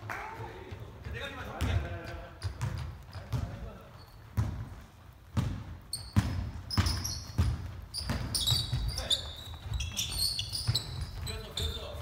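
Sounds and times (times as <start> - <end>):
basketball bouncing on court: 0.4 - 12.0
sneakers squeaking on floor: 0.6 - 12.0.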